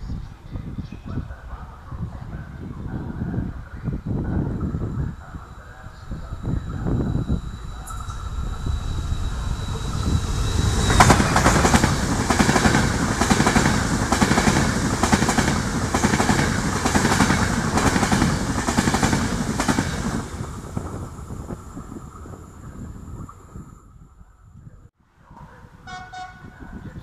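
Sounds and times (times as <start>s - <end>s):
electric train passing: 1.4s - 24.0s.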